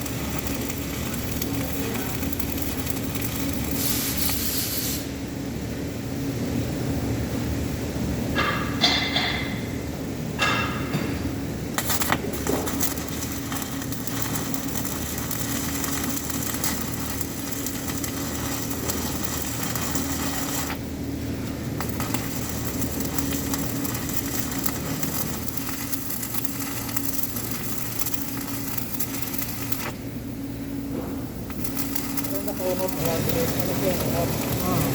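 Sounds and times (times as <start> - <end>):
arc welding crackling hiss: 0.0 - 34.9
welding machine hum: 0.0 - 34.9.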